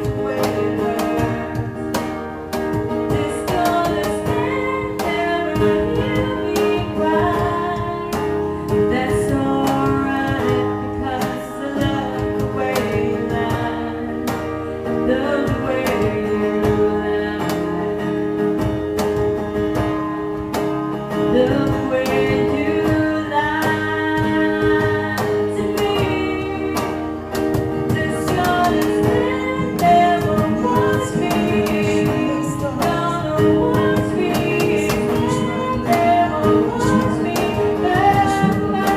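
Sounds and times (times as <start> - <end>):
people singing: 0.0 - 2.0, 2.7 - 18.0, 21.3 - 38.9
acoustic guitar: 0.0 - 38.9.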